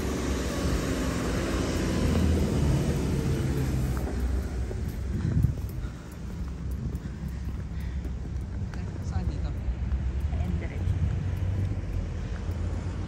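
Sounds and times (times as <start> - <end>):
passing traffic engine rumble: 0.0 - 13.0.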